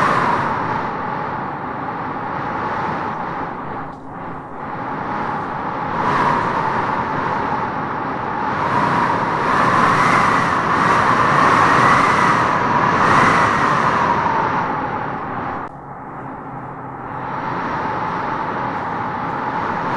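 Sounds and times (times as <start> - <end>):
wind whistling: 0.0 - 19.9.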